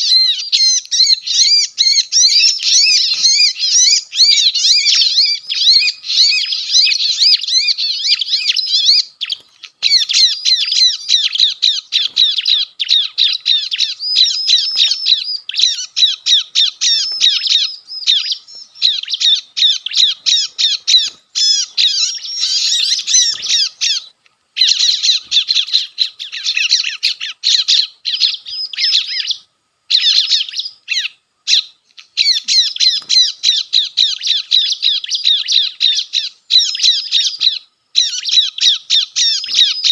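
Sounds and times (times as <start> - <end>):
recorded bird distress chatter: 0.0 - 39.9.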